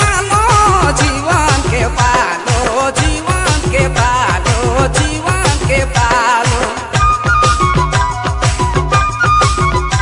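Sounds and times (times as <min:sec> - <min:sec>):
held melody line: 0:00.0 - 0:10.0
steady drum beat: 0:00.0 - 0:10.0.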